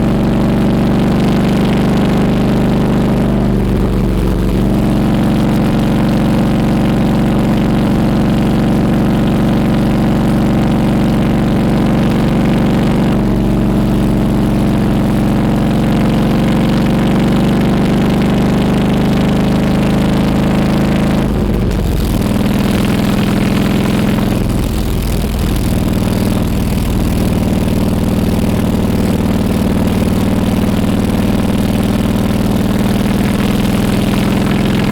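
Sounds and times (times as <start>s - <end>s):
motorcycle engine running loud: 0.0s - 34.9s.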